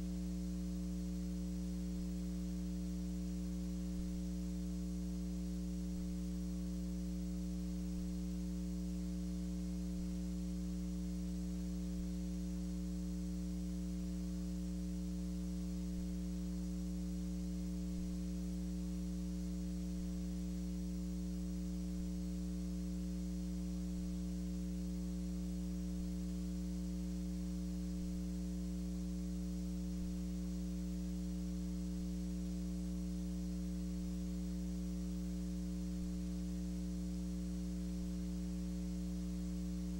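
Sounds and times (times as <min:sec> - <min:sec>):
electrical mains hum: 0:00.0 - 0:39.9
faint hiss: 0:00.0 - 0:39.9.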